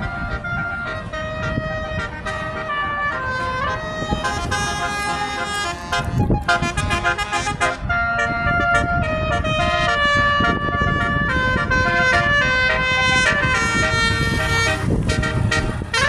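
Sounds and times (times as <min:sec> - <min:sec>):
bus engine rumble: 0:00.0 - 0:16.0
multi-tone bus horn melody: 0:00.0 - 0:16.0.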